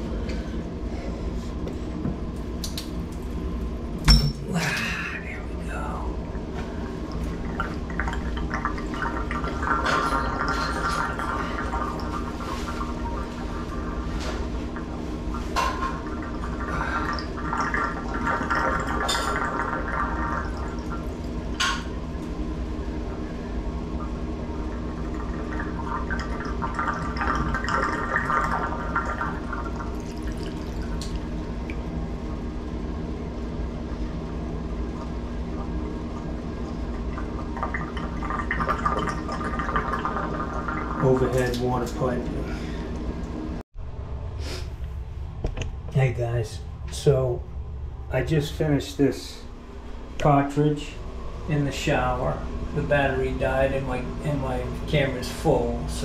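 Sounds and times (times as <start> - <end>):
water running through plumbing: 0.0 - 43.6, 44.6 - 56.0.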